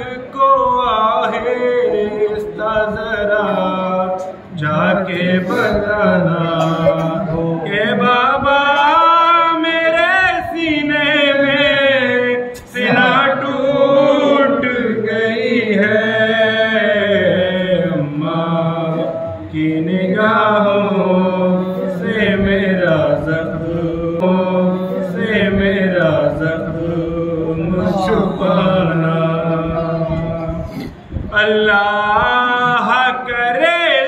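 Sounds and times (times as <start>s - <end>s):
man chanting a lament: 0.0s - 34.0s.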